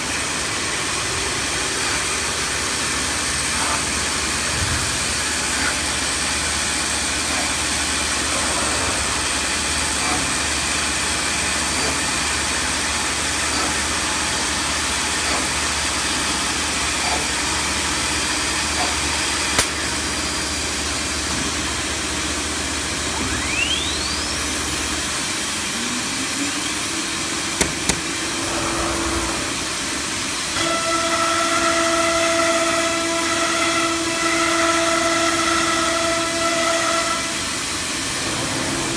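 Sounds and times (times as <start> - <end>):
high machine whine: 0.0 - 33.5
cnc router machine hissing: 0.0 - 38.9.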